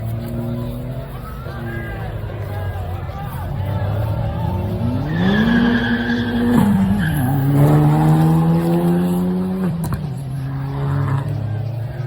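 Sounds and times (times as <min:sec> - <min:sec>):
car engine revving: 0:00.0 - 0:12.0
tires squealing: 0:00.0 - 0:12.0.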